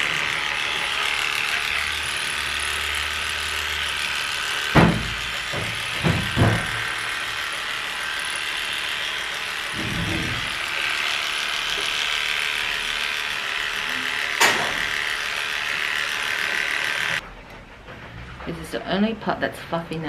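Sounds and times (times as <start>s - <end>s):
electric pet clipper running: 0.0s - 17.2s.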